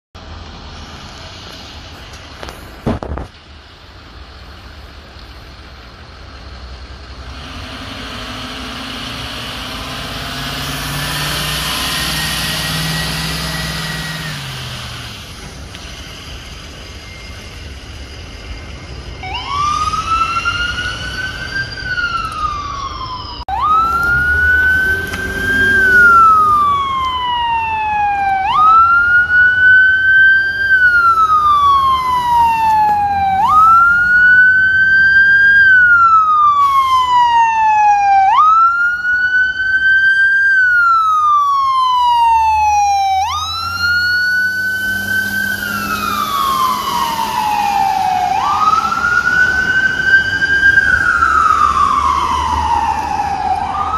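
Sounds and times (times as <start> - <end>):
ambulance engine: 0.2 - 53.9
ambulance siren wailing: 7.4 - 15.8, 16.5 - 53.9.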